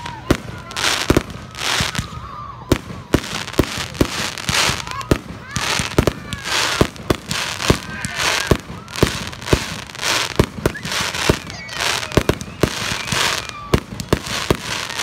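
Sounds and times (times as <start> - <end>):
fireworks bangs: 0.0 - 15.0
fireworks hissing and crackling: 0.0 - 15.0.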